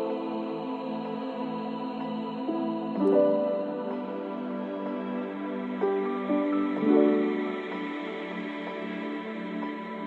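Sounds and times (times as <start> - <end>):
slow new-age instrumental music: 0.0 - 10.0.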